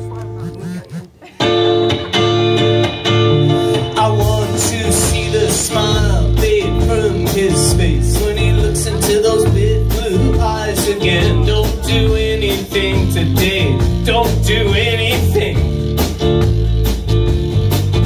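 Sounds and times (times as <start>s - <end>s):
electric guitars: 0.0s - 18.0s
rock band playing live: 0.0s - 18.0s
steady drum beat: 0.0s - 18.0s.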